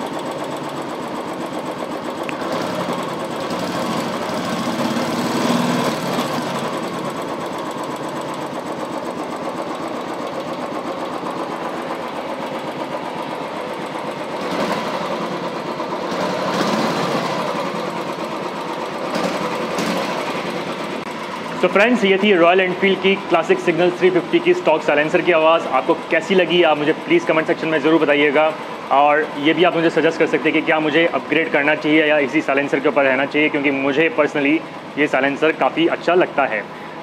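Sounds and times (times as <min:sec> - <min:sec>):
engine throttle blips: 0:00.0 - 0:37.0
motorcycle engine idling: 0:00.0 - 0:37.0.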